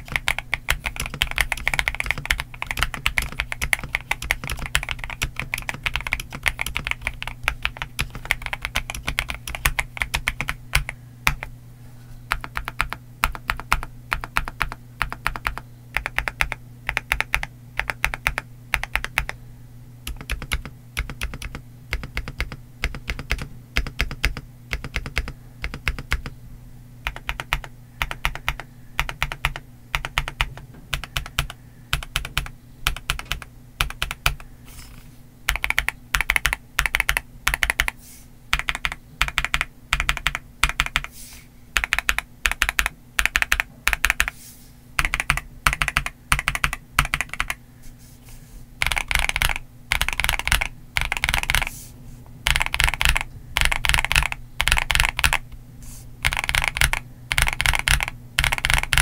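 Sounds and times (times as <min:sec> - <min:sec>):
mechanical keyboard typing: 0:00.0 - 0:11.5, 0:12.3 - 0:19.4, 0:20.1 - 0:26.3, 0:27.0 - 0:34.4, 0:35.5 - 0:41.1, 0:41.8 - 0:44.4, 0:45.0 - 0:47.6, 0:48.8 - 0:51.7, 0:52.4 - 0:55.5, 0:56.2 - 0:59.0.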